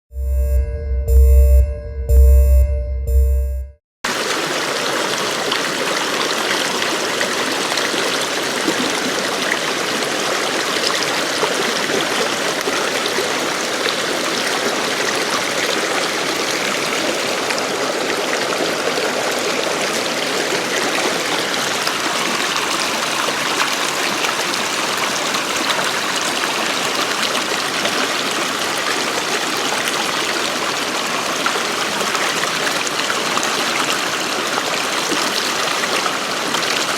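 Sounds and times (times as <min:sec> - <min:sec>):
stream flowing over rocks: 0:04.1 - 0:36.9.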